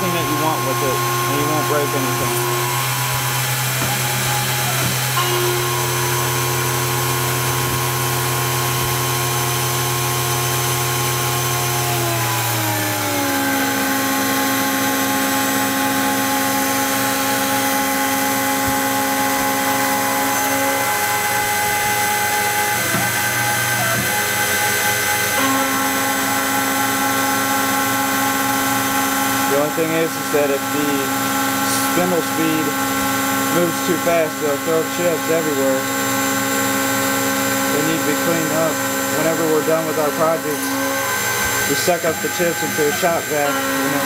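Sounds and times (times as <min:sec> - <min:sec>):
milling machine motor whine: 0:00.0 - 0:44.0.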